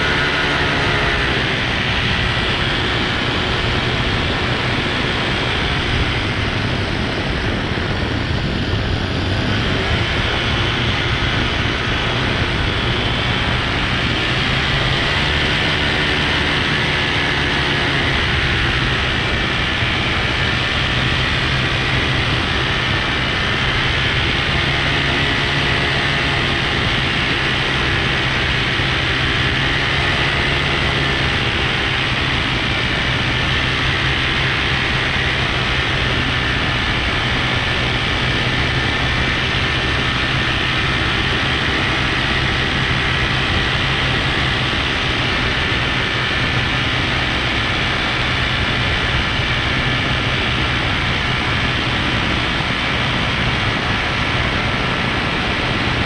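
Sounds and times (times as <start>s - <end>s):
paramotor engine droning: 0.0s - 56.0s
wind rushing over microphone: 0.0s - 56.0s.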